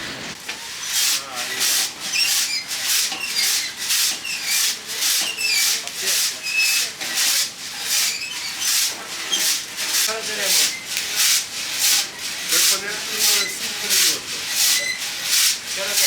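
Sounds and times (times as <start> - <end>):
hand scraping strokes: 0.0 - 16.0.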